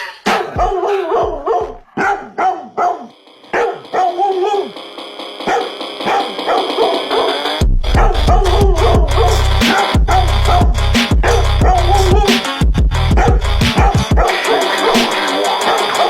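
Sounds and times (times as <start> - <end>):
music with heavy bass beat: 0.0 - 1.9, 3.6 - 16.0
dog barking and yipping: 0.3 - 4.8, 5.5 - 12.3, 13.2 - 16.0.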